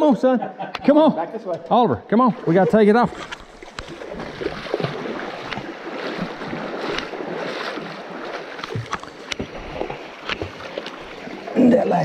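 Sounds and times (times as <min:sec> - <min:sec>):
creek water splashing around feet: 0:02.2 - 0:12.0.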